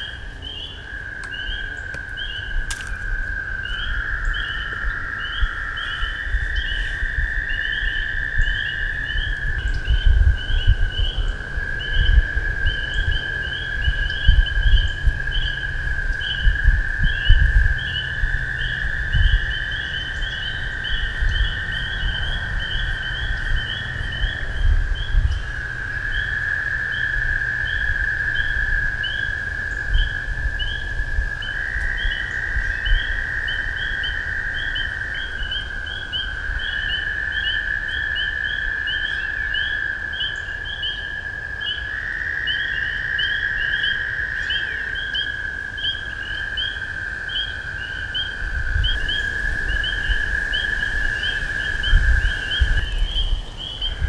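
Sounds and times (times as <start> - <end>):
frogs peeping: 0.0 - 54.0
toads trilling: 0.0 - 54.0
wind rumble on microphone: 0.0 - 54.0.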